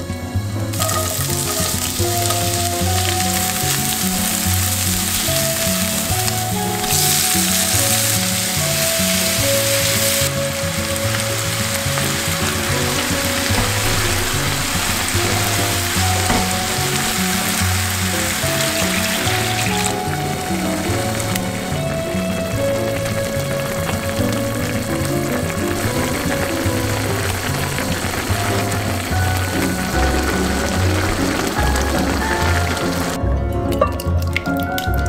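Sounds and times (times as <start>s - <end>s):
food sizzling in a frying pan: 0.7s - 33.2s.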